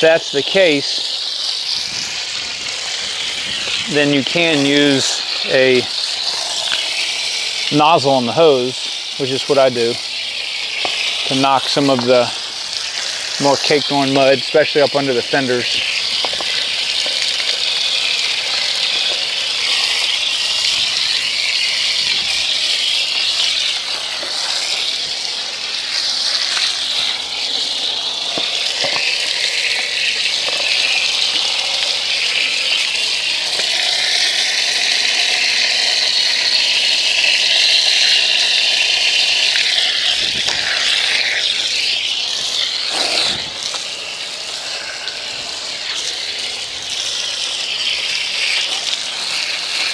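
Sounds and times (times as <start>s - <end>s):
hose spraying water on dirt bike: 0.0s - 49.9s.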